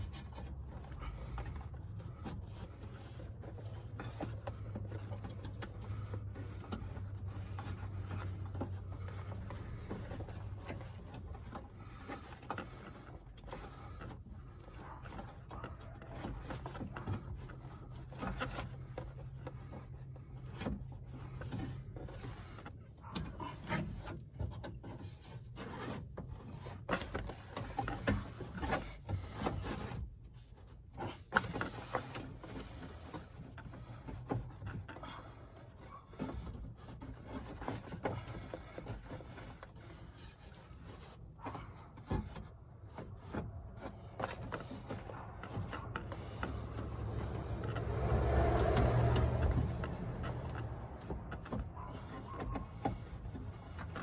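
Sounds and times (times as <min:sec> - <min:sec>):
rubbing and scraping: 0:00.0 - 0:54.0.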